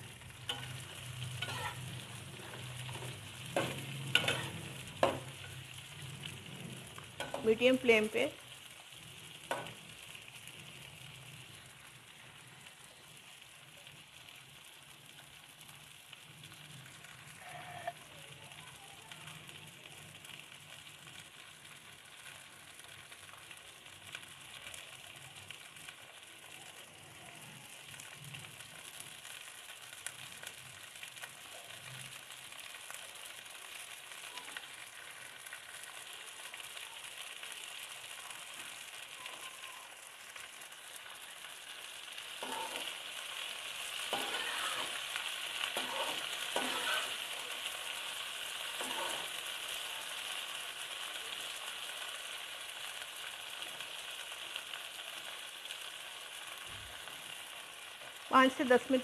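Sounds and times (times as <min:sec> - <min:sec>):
okra sizzling in hot oil: 0:00.0 - 0:59.0.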